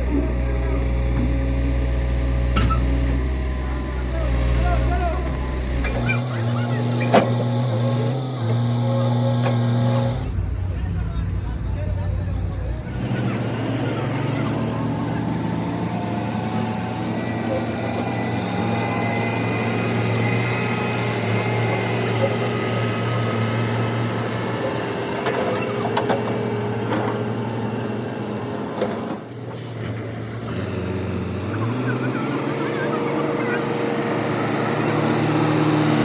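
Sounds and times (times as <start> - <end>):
truck diesel engine running: 0.0 - 36.0.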